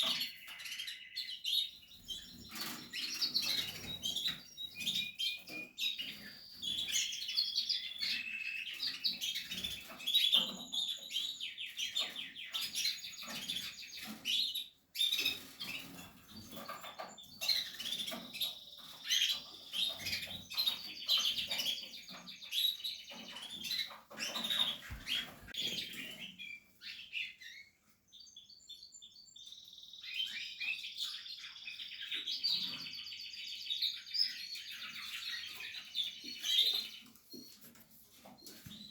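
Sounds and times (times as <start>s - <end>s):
canaries chirping and trilling: 0.0s - 38.9s.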